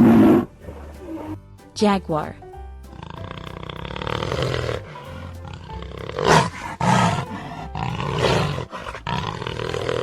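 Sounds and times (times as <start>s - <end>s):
jaguar growling and roaring: 0.0s - 1.4s, 3.0s - 10.0s.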